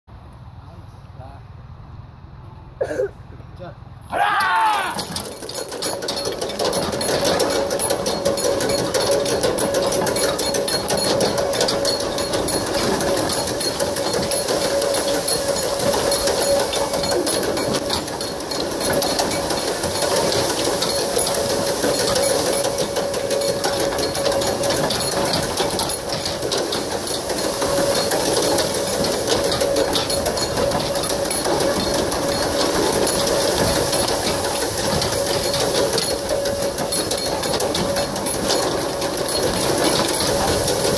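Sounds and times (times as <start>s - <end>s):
iron frame rattling and clattering: 4.5s - 40.9s.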